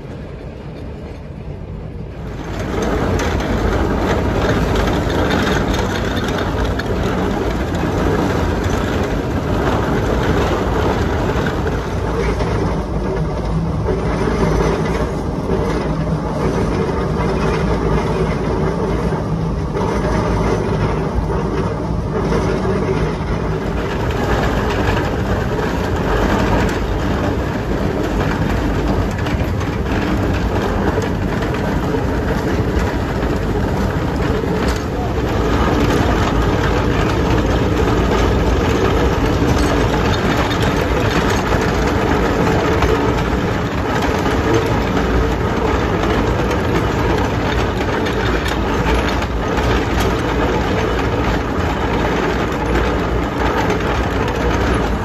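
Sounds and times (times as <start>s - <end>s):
steam locomotive working: 0.0s - 55.0s
train rolling on rails: 0.0s - 55.0s.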